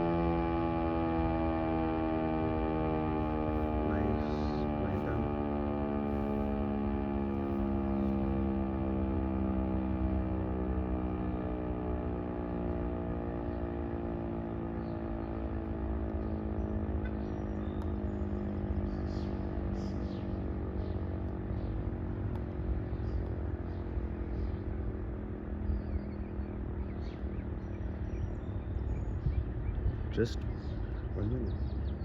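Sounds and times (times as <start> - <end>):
electronic warning siren drone: 0.0 - 32.0
birds chirping: 1.5 - 32.0.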